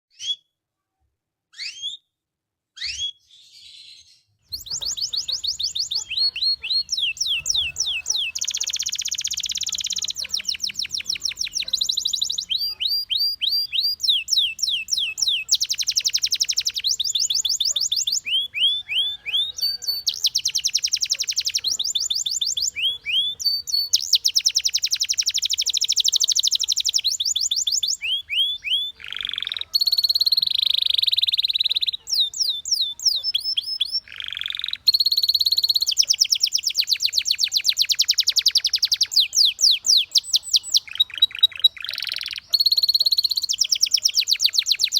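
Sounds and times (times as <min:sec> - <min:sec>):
canary singing: 0:00.1 - 0:00.4, 0:01.5 - 0:02.0, 0:02.8 - 0:44.9.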